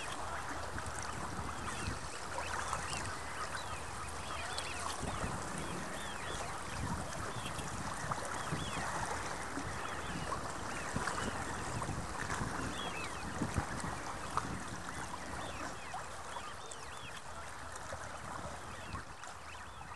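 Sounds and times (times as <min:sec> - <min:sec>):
distant waterfowl calls: 0:00.0 - 0:19.9
water lapping: 0:00.0 - 0:19.9
wind rumbling on microphone: 0:00.0 - 0:19.9.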